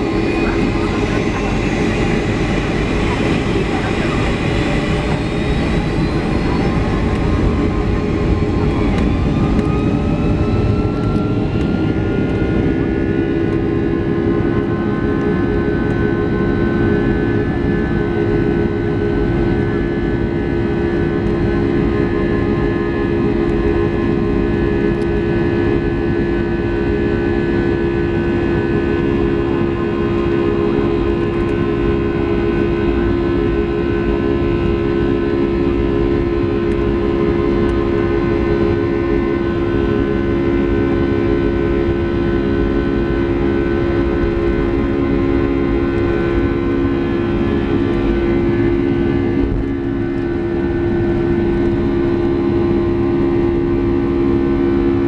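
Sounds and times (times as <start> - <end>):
jet engines heard from cabin: 0.0 - 55.0.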